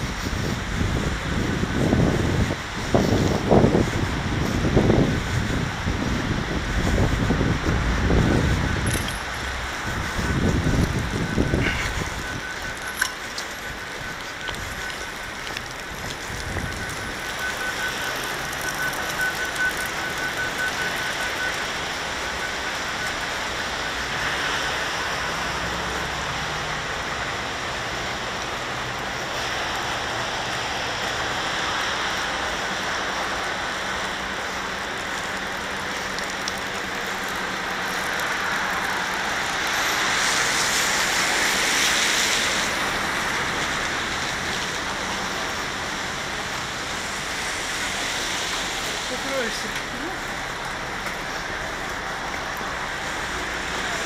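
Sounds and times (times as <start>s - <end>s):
tyres hissing on wet road: 0.0s - 54.0s.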